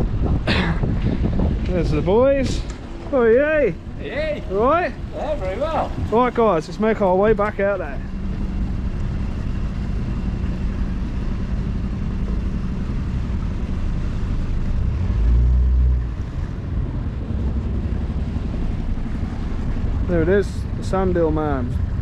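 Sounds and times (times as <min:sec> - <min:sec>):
boat motor running: 0:00.0 - 0:22.0
low rumble: 0:00.0 - 0:22.0
water noise: 0:00.0 - 0:22.0
wind: 0:00.0 - 0:22.0.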